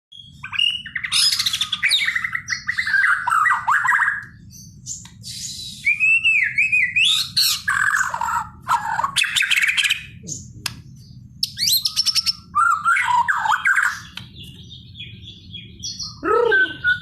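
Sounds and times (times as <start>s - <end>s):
low background hum: 0.1s - 17.0s
songbird singing: 0.1s - 17.0s.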